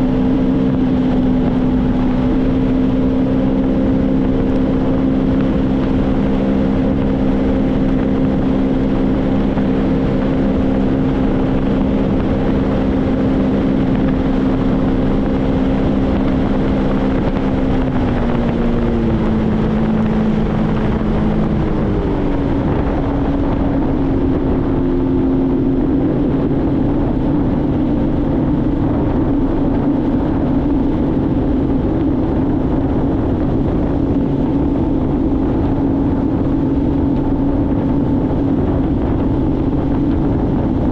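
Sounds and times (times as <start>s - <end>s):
personal watercraft engine running: 0.0s - 40.9s
steady rushing noise: 0.0s - 40.9s.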